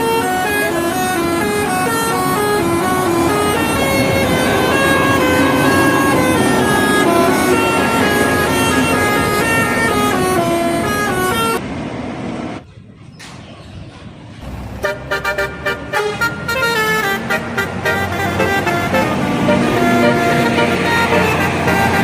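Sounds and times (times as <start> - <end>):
bus horn playing melody: 0.0 - 11.6, 14.6 - 22.0.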